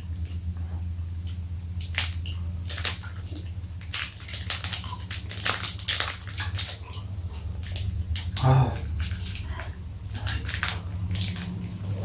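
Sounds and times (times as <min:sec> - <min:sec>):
crackling and chewing: 0:00.0 - 0:12.0
steady low hum: 0:00.0 - 0:12.0.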